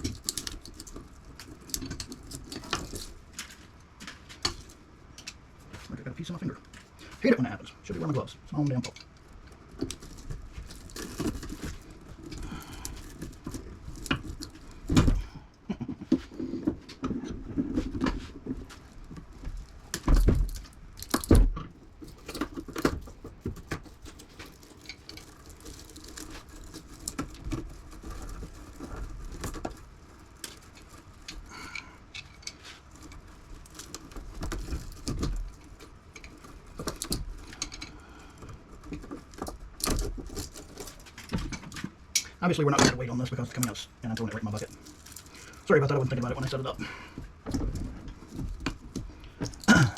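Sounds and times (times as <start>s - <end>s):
scrap metal clinking and rattling: 0.0s - 49.9s.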